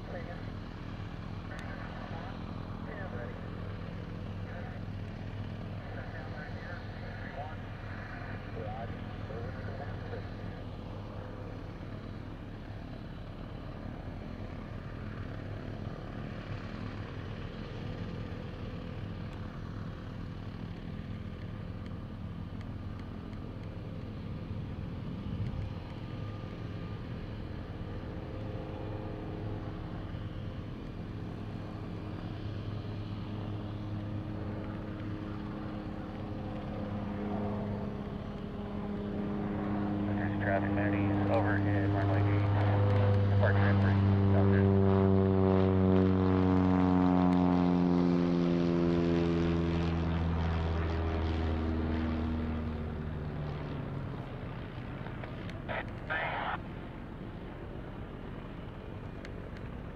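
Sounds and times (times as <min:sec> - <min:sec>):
propeller airplane engine drone: 0:00.0 - 0:59.9.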